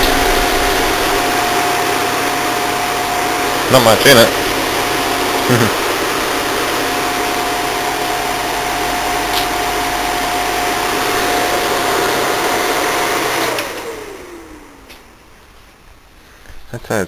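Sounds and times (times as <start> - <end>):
air conditioner fan running: 0.0 - 17.0.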